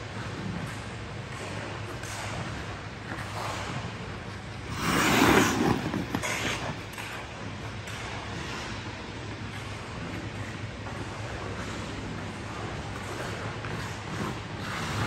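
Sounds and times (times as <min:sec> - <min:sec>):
skate blades scraping on ice: 0:00.1 - 0:15.0.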